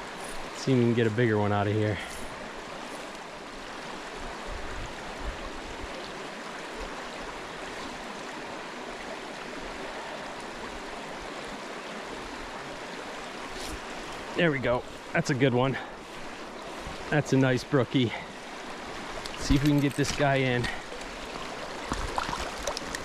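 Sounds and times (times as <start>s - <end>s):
brook flowing over stones: 0.0s - 23.0s.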